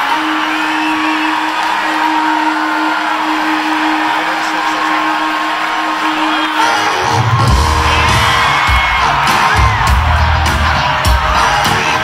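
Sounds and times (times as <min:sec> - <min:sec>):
crowd cheering and whooping: 0:00.0 - 0:12.0.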